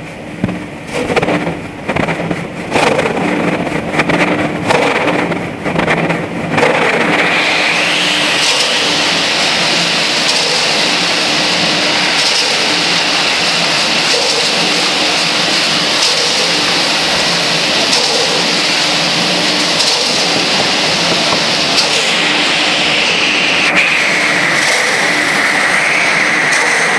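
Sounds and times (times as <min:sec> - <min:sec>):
mortar mixer running: 0:00.5 - 0:26.9.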